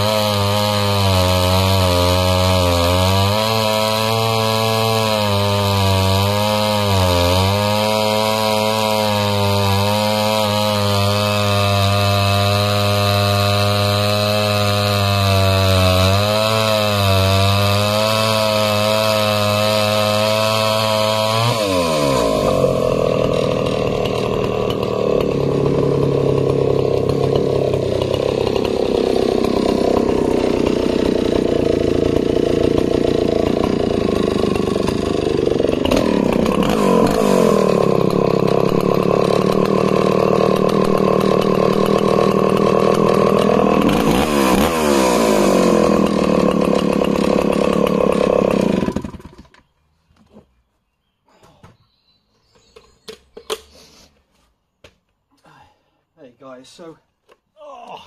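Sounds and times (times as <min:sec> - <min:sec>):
chainsaw cutting log: 0:00.0 - 0:49.7.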